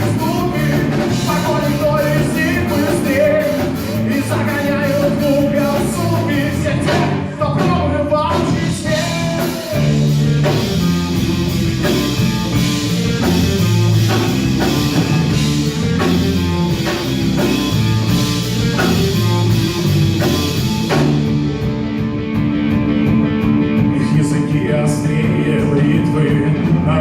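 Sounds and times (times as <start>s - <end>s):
bass guitar: 0.0s - 27.0s
drum kit beat: 0.0s - 27.0s
electric guitars: 0.0s - 27.0s.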